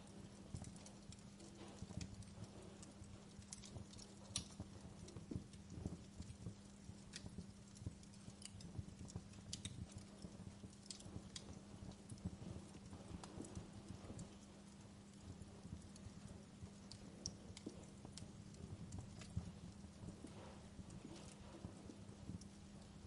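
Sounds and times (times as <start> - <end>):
faint steady hum: 0.0 - 23.0
wood fire crackling: 0.0 - 23.0.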